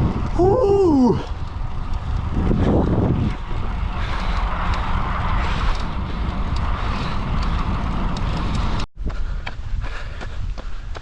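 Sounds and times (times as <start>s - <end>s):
wind and road noise from bicycle: 0.0s - 11.0s
wind rumbling on microphone: 0.0s - 11.0s.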